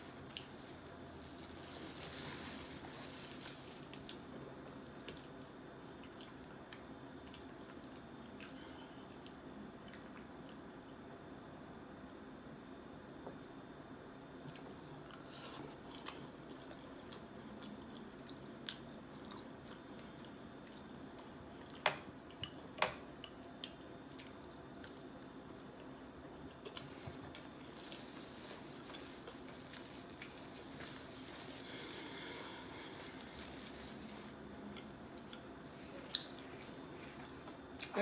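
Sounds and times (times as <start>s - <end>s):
low room hum: 0.0s - 38.0s
person chewing food: 3.8s - 11.0s, 14.4s - 37.9s.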